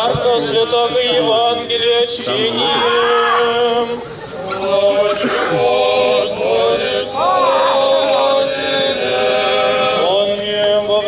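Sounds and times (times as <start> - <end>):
men chanting in long held notes: 0.0 - 11.0.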